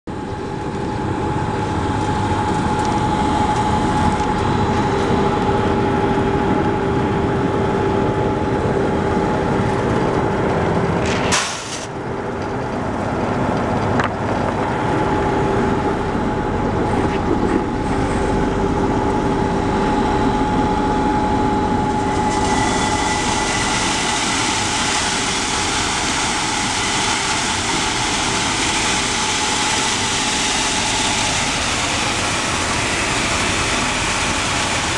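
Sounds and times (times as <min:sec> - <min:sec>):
peeling machine motor drone: 0:00.1 - 0:11.0, 0:11.9 - 0:34.9.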